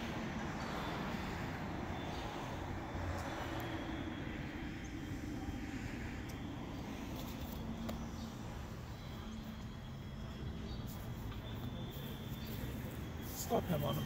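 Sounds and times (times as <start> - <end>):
faint steady hum: 0.0 - 14.0
low outdoor rumble: 0.0 - 14.0.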